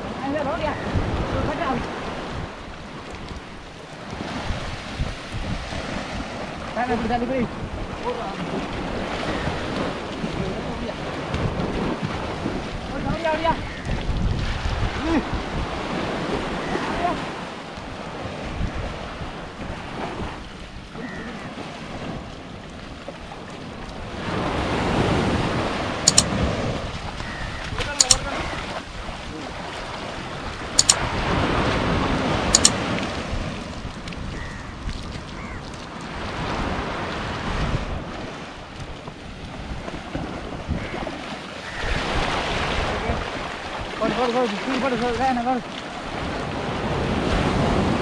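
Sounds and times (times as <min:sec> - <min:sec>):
waves washing onto sand: 0:00.0 - 0:48.0
wind buffeting microphone: 0:00.0 - 0:48.0.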